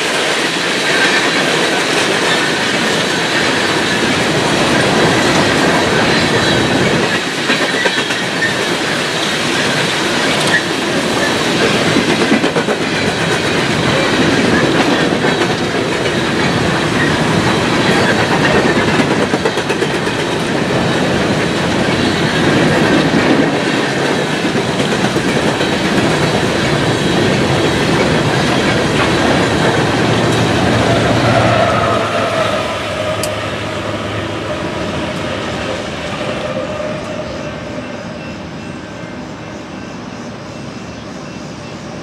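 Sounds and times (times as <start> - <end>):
train wheels rumbling over rail joints: 0.0 - 38.4.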